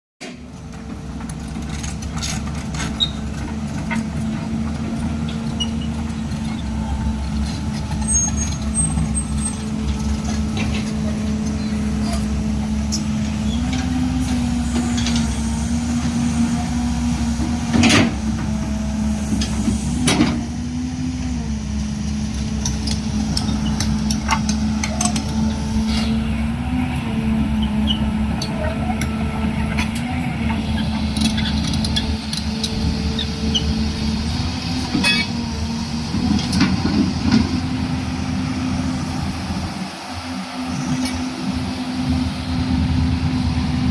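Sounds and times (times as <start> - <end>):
excavator diesel engine running: 0.3 - 43.9.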